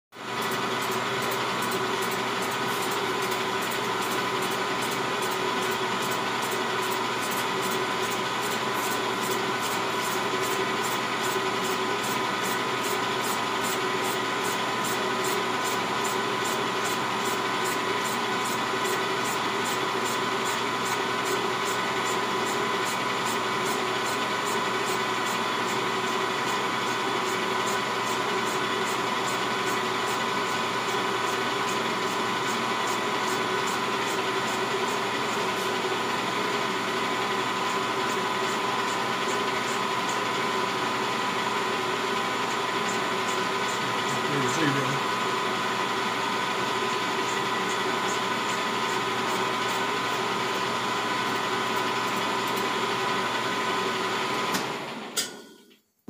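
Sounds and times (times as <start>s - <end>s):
metal lathe motor whine: 0.2s - 55.2s.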